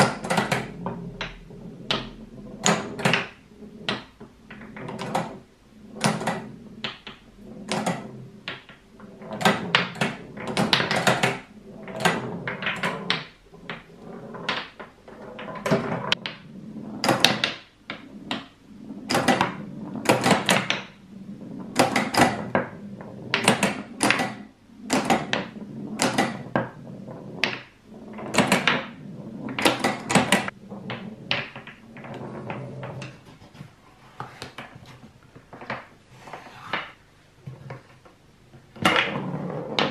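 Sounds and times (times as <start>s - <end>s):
wooden pinball knocks and clacks: 0.0s - 21.0s, 21.6s - 33.2s, 36.7s - 39.9s
ball rolling rattle: 0.0s - 39.9s.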